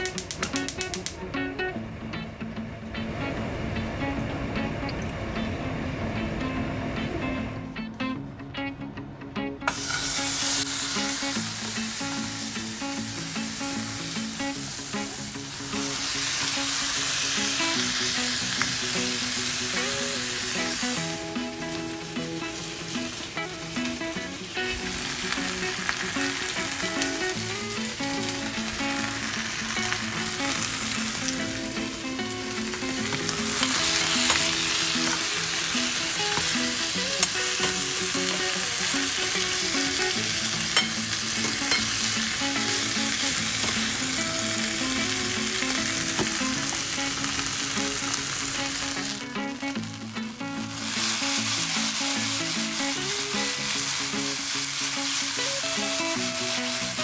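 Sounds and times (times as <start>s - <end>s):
food sizzling in a frying pan: 9.7s - 57.0s.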